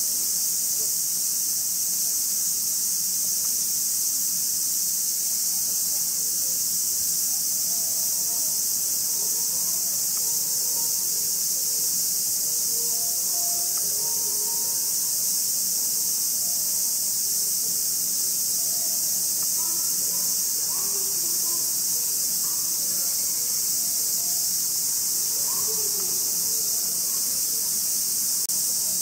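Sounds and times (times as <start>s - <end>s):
cicadas singing: 0.0s - 29.0s
faint voices murmuring: 5.2s - 29.0s.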